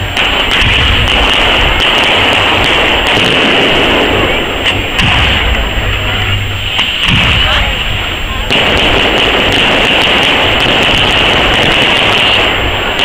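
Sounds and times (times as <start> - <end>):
fireworks crackling: 0.0 - 13.0
low rumbles: 0.0 - 13.0.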